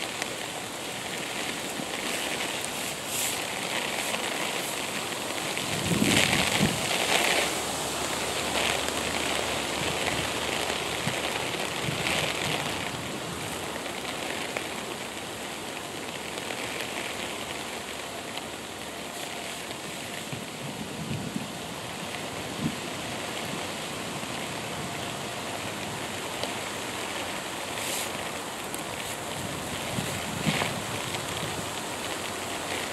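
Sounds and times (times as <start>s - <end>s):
outdoor ambient hiss: 0.0s - 32.9s.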